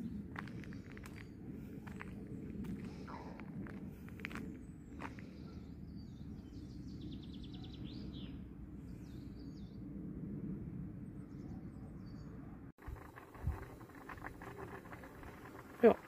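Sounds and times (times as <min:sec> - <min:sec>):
low outdoor rumble: 0:00.0 - 0:07.0, 0:08.2 - 0:16.0
songbirds chirping and trilling: 0:00.0 - 0:10.2, 0:11.0 - 0:16.0.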